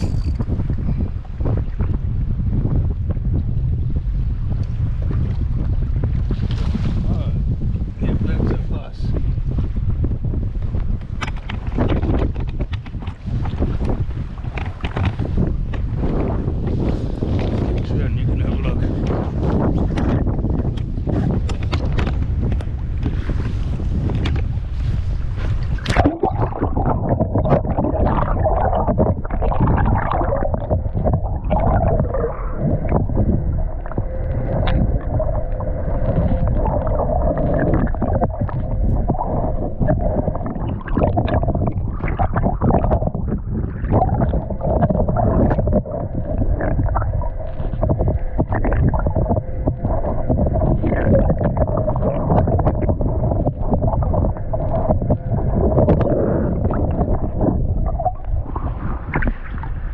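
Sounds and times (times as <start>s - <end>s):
muffled sea water sloshing: 0.0s - 59.9s.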